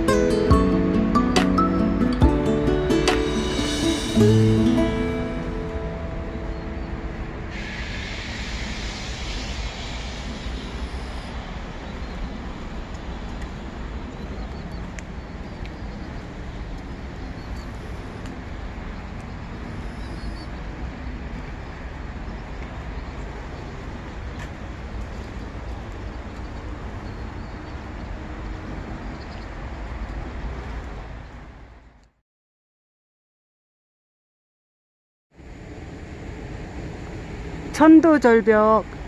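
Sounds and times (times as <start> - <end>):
low outdoor rumble: 0.0 - 32.1, 35.4 - 39.0.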